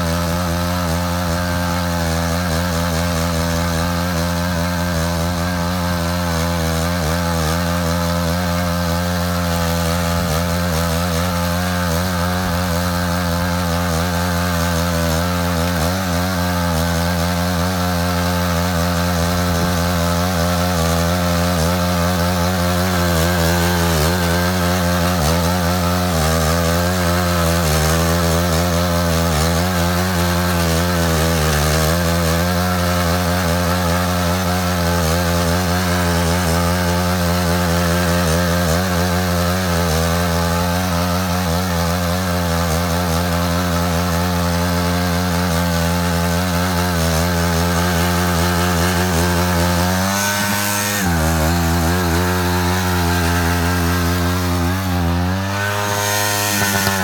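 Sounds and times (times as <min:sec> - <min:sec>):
power tiller engine running: 0:00.0 - 0:57.0.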